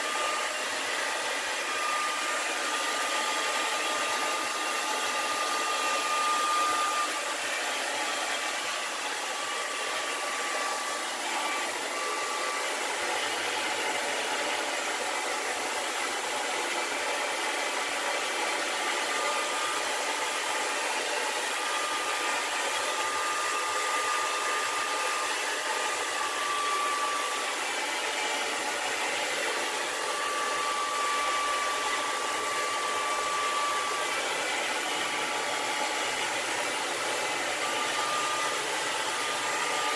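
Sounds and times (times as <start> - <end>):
heat gun blowing air: 0.0 - 39.9.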